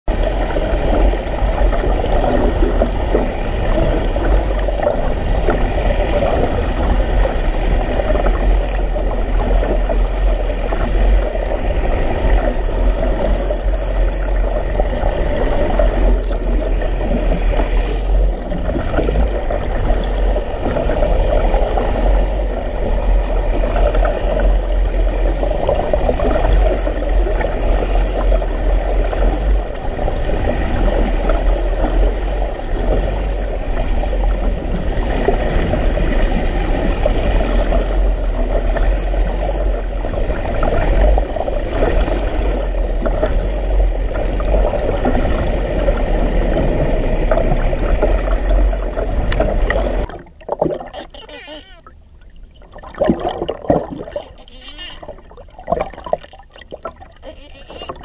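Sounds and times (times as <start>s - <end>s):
water rushing past underwater: 0.1s - 58.0s.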